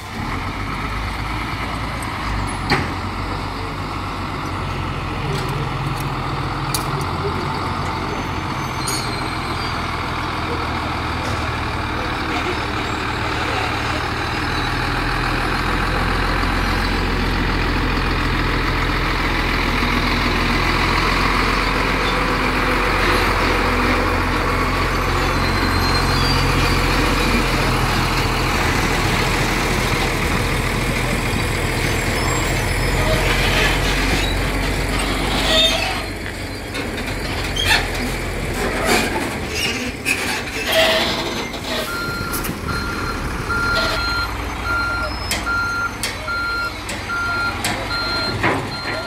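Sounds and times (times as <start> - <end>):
truck diesel engine running: 0.0 - 49.0.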